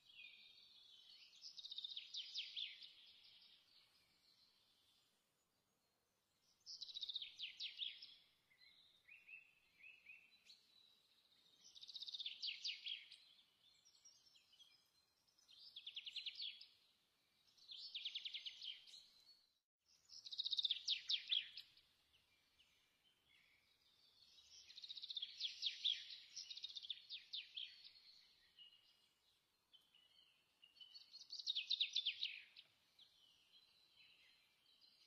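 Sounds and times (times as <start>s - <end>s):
soft bird chirps: 0.0s - 35.0s.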